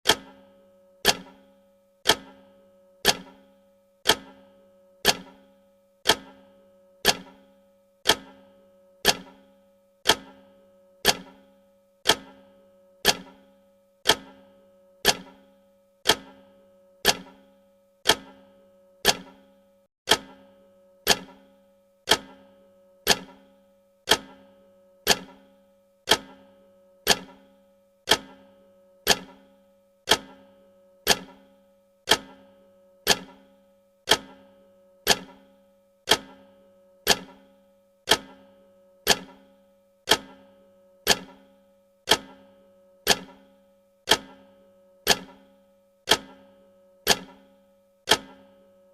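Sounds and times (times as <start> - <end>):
clock-like ticks with ringing tail: 0.1 - 48.9.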